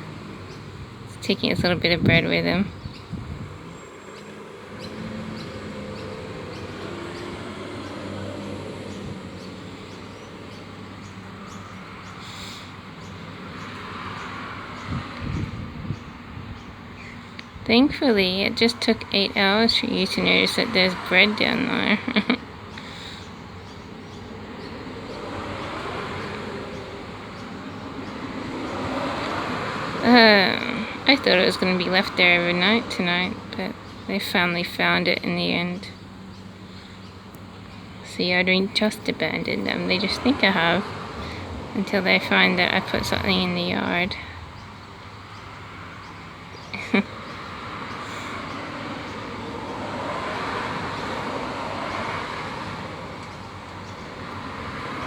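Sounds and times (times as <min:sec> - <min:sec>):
vehicle engine rumbling: 0:00.0 - 0:52.0
road traffic noise: 0:00.0 - 0:55.0.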